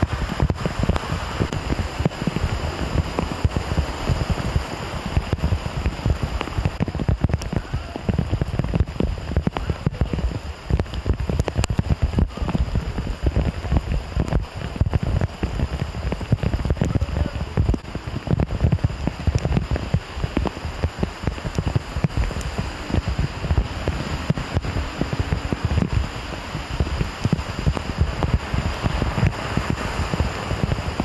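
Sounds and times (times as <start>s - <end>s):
heavy rain on hard surfaces: 0.0s - 31.0s.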